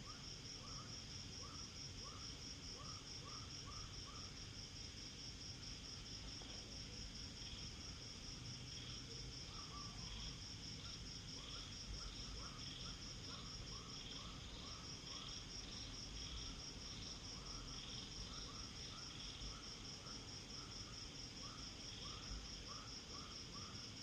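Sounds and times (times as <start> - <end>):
insects trilling: 0.0 - 24.0
slower pulsing insect call: 0.0 - 24.0.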